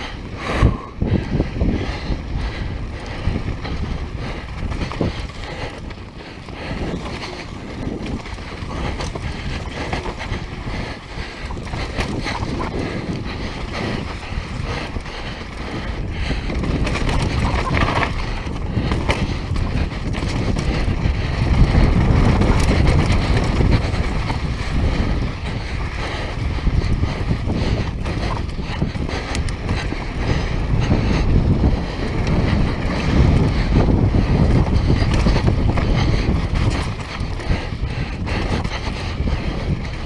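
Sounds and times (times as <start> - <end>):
bike clattering over bumps: 0.0 - 40.0
bike tyre noise: 0.0 - 40.0
wind buffeting microphone: 0.0 - 40.0.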